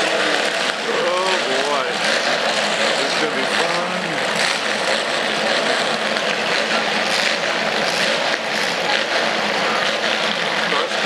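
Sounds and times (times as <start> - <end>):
car engines running loudly: 0.0 - 11.0.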